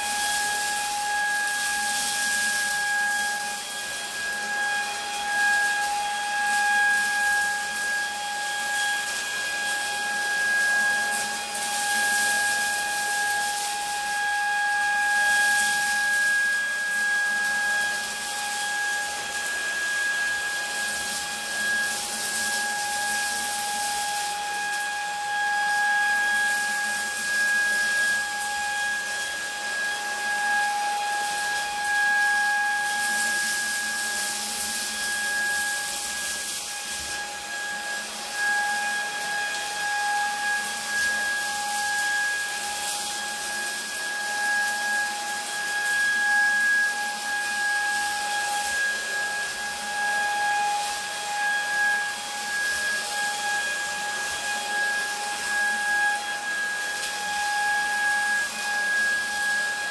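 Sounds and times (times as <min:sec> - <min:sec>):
vacuum cleaner on carpet: 0:00.0 - 0:59.9.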